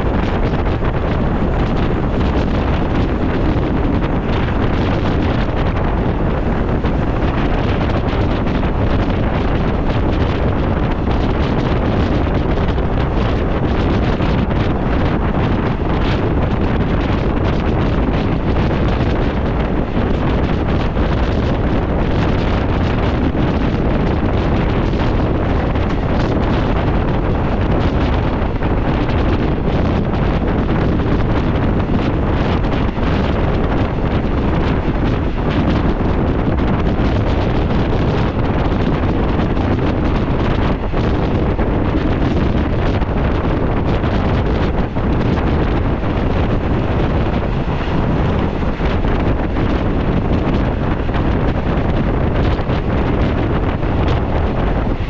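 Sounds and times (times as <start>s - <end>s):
train running rumble: 0.0s - 55.0s
wind buffeting microphone: 0.0s - 55.0s.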